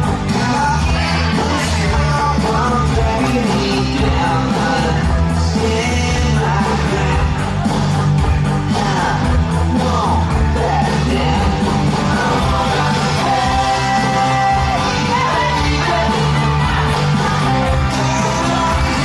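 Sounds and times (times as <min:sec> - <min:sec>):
rock song with singing: 0:00.0 - 0:19.0.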